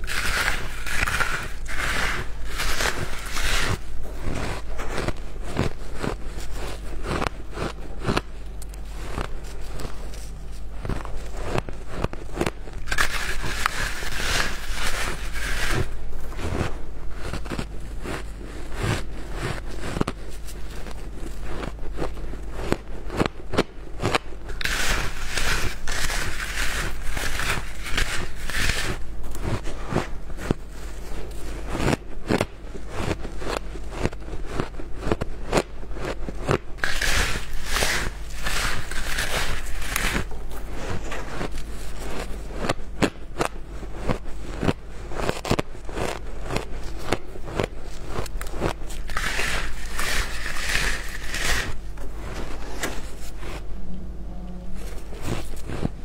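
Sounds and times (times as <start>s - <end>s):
crunching shaved ice: 0.0s - 53.3s.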